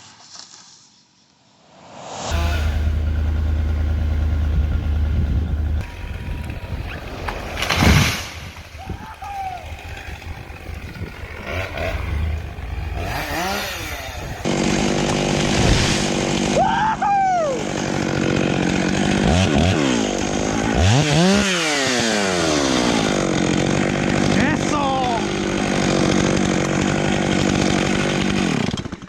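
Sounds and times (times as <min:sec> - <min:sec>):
chainsaw engine revving: 0:02.3 - 0:29.0.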